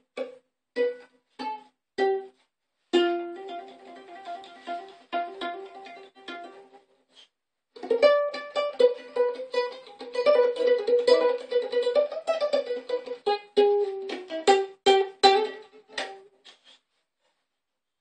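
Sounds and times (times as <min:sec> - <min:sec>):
ukulele strummed chords: 0:00.0 - 0:06.8, 0:07.8 - 0:16.3.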